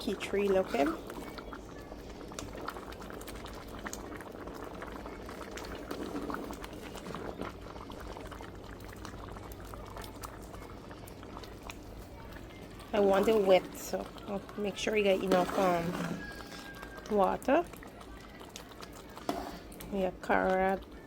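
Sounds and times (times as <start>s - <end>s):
pot boiling and bubbling: 0.0s - 21.0s.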